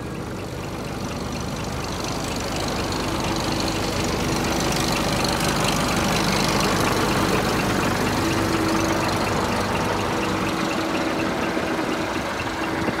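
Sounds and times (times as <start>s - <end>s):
diesel truck engine idling: 0.0s - 13.0s
faint regular ticking: 0.0s - 13.0s.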